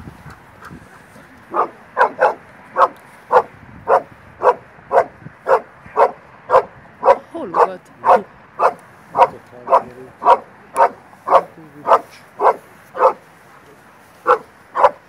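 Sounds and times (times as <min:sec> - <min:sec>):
dog barking: 0:01.5 - 0:13.2, 0:14.2 - 0:15.0.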